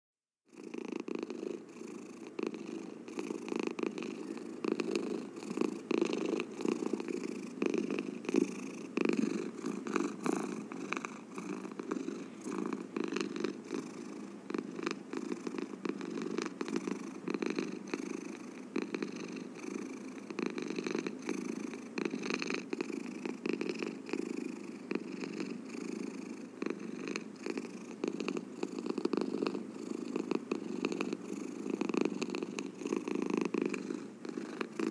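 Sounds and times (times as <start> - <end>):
cat purring: 0.5 - 34.9.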